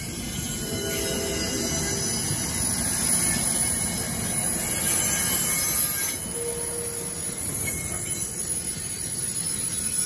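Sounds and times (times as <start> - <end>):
train rumble: 0.0 - 10.0
train wheels squealing: 0.0 - 10.0.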